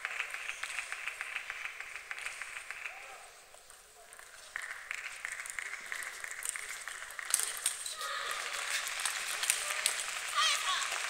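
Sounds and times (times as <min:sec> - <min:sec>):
murmur of spectators: 0:00.0 - 0:11.0.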